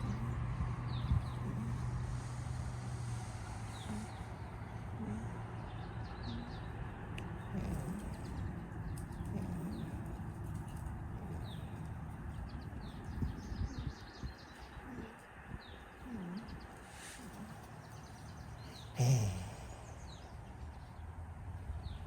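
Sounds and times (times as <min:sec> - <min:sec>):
goat vocal noises: 0:00.0 - 0:13.9, 0:14.6 - 0:20.3
small birds chirping: 0:00.0 - 0:22.0.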